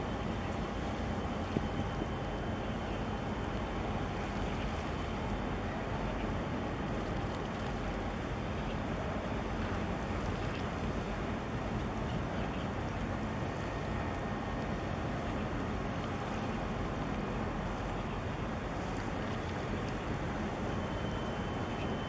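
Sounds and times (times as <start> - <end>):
ship passing low rumble: 0.0 - 22.0.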